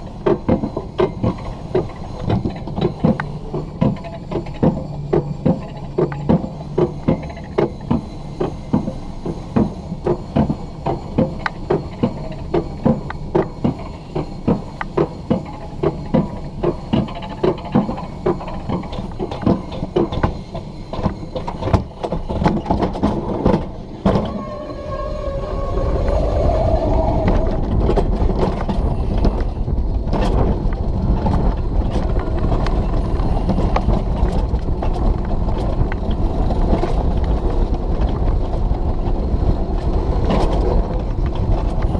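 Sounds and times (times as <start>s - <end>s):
coaster lift clicking: 0.0s - 41.9s
sled rolling rumble: 0.0s - 41.9s.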